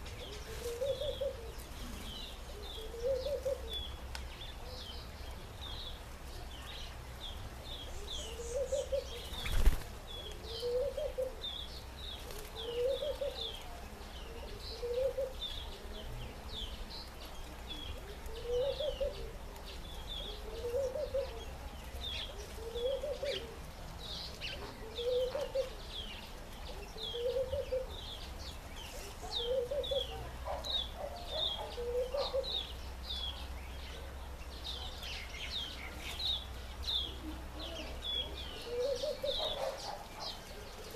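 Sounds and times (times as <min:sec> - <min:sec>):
low cooing bird call: 0:00.0 - 0:05.1, 0:07.8 - 0:16.8, 0:17.7 - 0:23.7, 0:24.3 - 0:34.1, 0:34.8 - 0:40.9
small birds chirping: 0:00.0 - 0:40.9.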